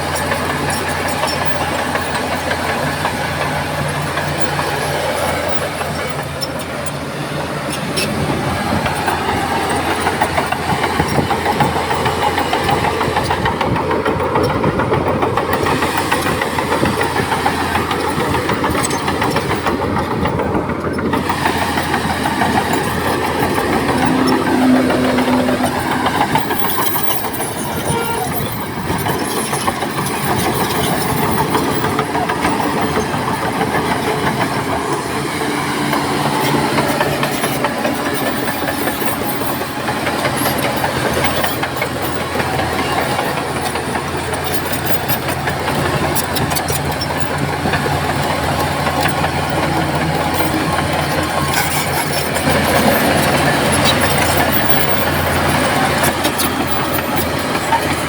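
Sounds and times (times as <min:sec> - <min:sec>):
diesel machinery engine drone: 0:00.0 - 0:58.0.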